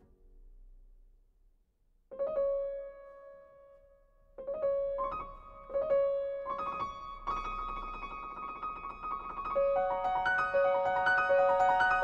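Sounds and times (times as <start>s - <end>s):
slow solo piano: 2.1s - 12.0s.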